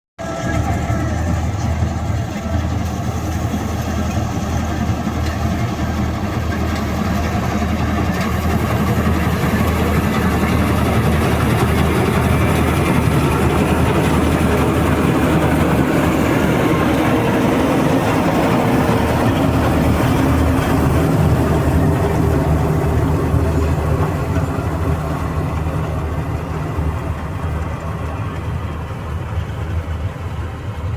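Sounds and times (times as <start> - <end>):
heavy diesel engine running: 0.2 - 30.9.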